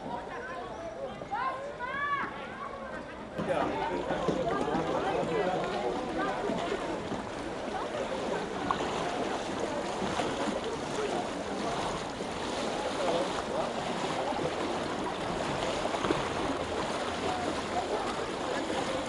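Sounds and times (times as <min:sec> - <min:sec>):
boat pushed through water: 0:00.0 - 0:19.0
faint voices: 0:00.0 - 0:19.0
floodwater sloshing and splashing: 0:01.4 - 0:19.0.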